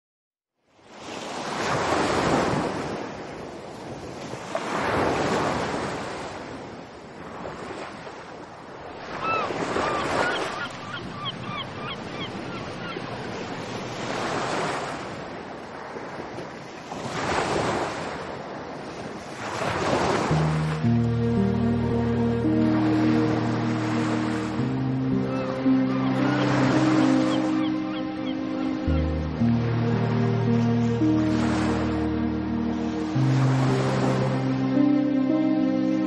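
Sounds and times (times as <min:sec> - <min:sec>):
ocean waves breaking: 0:00.8 - 0:36.0.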